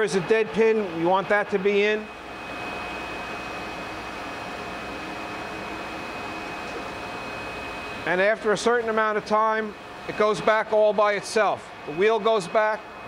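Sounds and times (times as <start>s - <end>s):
grinder hum and whine: 0.0s - 13.0s.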